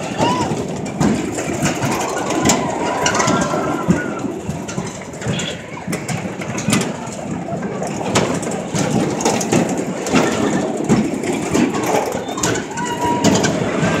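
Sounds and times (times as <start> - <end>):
continuous noisy rush: 0.0 - 14.0
ride car rattling and clunking: 0.0 - 14.0.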